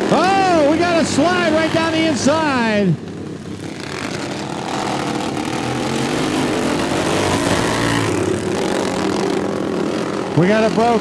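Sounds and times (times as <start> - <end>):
racing lawn mower engines: 0.0 - 11.0.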